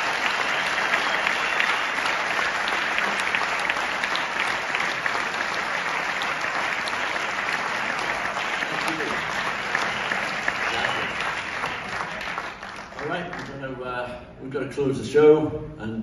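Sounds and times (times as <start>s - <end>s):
crowd applauding: 0.0s - 13.7s.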